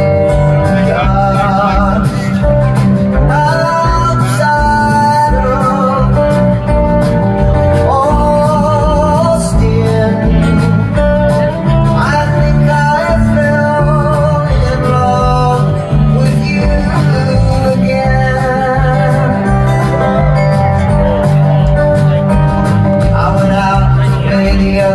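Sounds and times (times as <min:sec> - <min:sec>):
wavering lead melody: 0:00.0 - 0:24.3
acoustic guitar: 0:00.0 - 0:24.9
drums: 0:00.0 - 0:24.9
live country band: 0:00.0 - 0:24.9.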